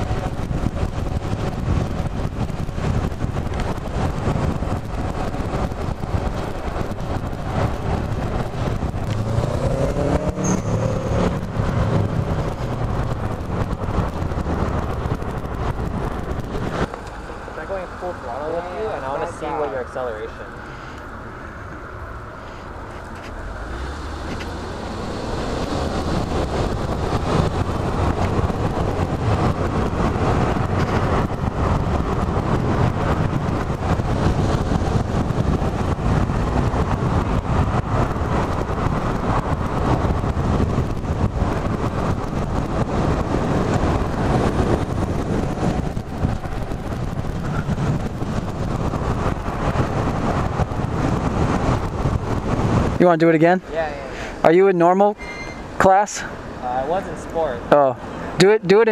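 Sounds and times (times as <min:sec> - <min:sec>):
bike road noise: 0:00.0 - 0:58.9
rushing wind: 0:00.0 - 0:58.9.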